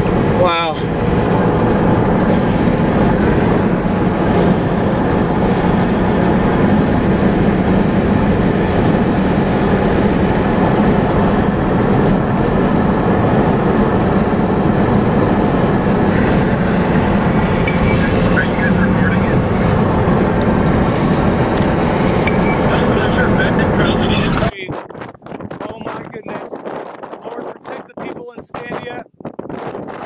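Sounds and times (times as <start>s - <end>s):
road and engine noise in car: 0.0s - 24.6s.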